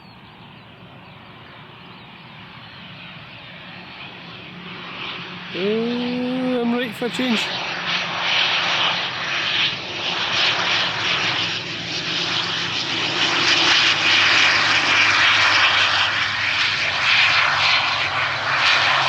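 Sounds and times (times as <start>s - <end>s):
airliner engines rushing: 0.0s - 19.0s.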